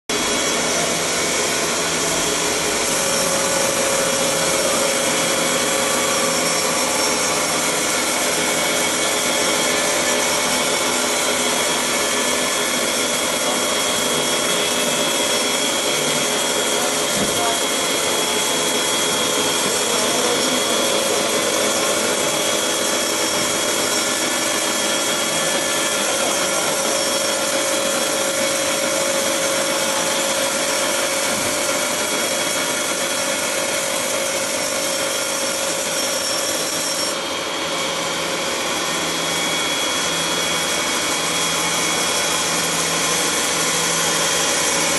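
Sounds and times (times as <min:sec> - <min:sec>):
band sawmill sawing wood: 0:00.1 - 0:44.9.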